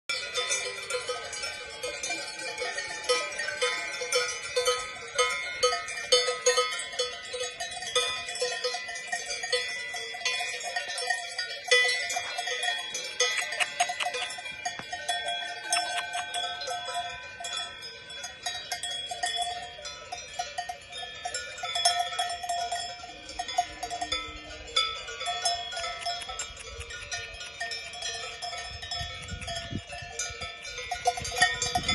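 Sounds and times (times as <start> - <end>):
cowbells clanking: 0.1 - 31.9.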